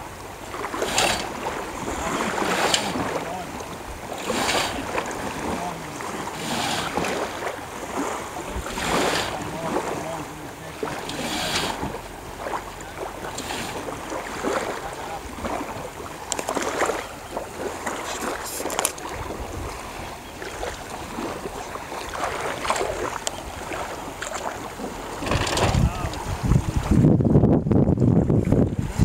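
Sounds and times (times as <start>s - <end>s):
small waves lapping: 0.0s - 27.1s
wind on microphone: 0.7s - 29.0s.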